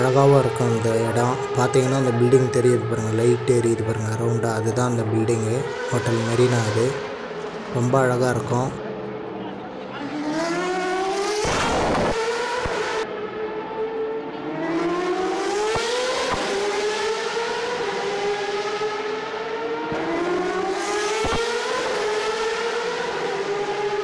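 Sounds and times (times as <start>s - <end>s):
race car engines accelerating: 0.0s - 24.0s.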